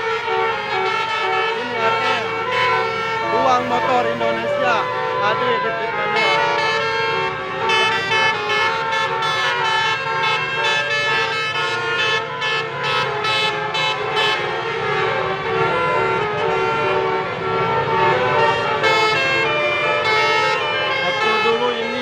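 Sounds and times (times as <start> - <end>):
musical air horns playing a tune: 0.0 - 22.0.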